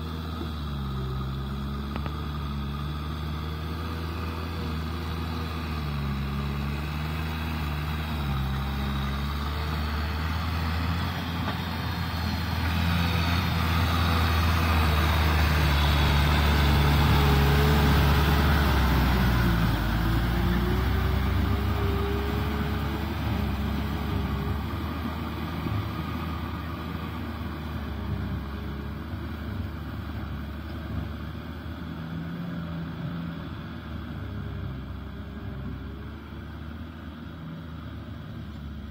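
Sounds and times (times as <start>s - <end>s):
tractor diesel engine under load: 0.0s - 38.9s.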